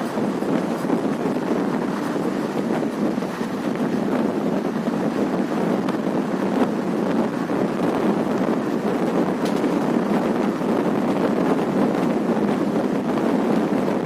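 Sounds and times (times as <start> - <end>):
train wheels rumbling: 0.0 - 14.0
wind buffeting microphone: 0.0 - 14.0.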